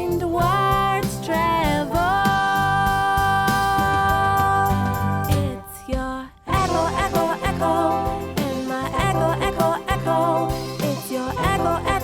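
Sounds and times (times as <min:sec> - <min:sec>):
upbeat theme song with singing: 0:00.0 - 0:12.0.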